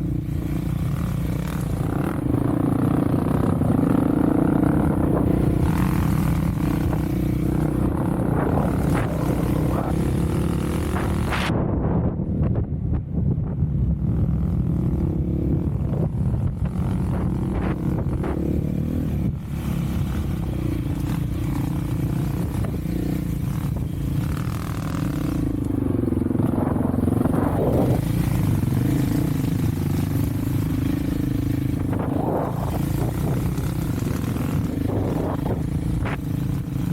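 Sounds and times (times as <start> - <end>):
off-road vehicle engine running: 0.0 - 36.9.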